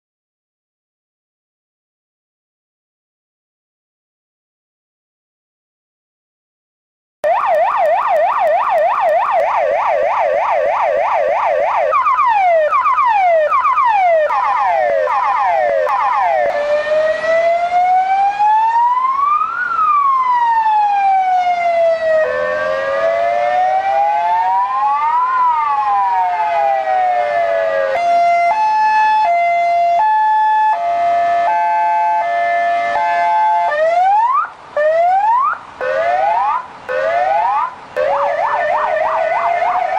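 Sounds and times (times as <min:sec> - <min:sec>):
electronic police siren: 0:07.2 - 0:39.9.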